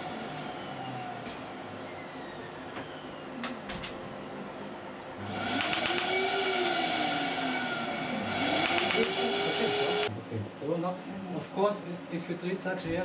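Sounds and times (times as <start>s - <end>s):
machine hum: 0.0s - 10.7s.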